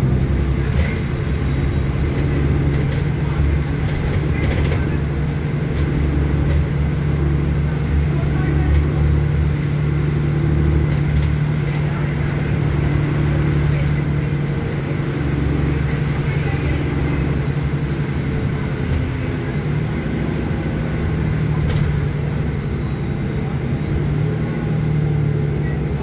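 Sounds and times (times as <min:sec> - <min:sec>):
bus engine droning: 0:00.0 - 0:26.0
road noise: 0:00.0 - 0:26.0.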